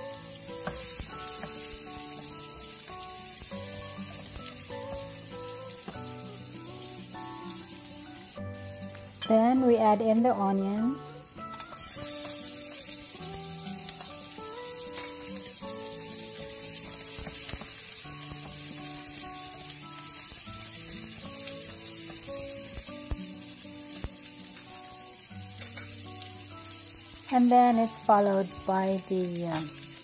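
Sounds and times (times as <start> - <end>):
onions sizzling in oil: 0.0 - 30.0
soft background music: 0.0 - 30.0.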